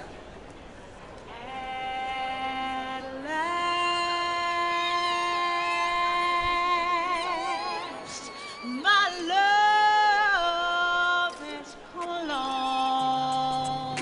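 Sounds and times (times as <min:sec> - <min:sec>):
woman singing unaccompanied: 0:01.3 - 0:14.0.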